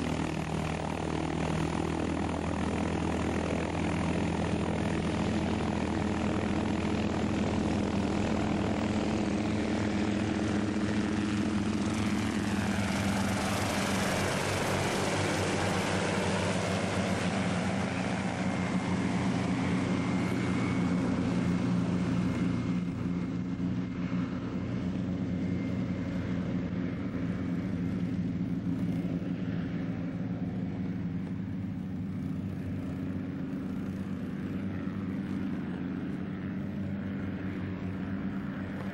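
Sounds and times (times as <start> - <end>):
helicopter engines and rotors: 0.0 - 38.9.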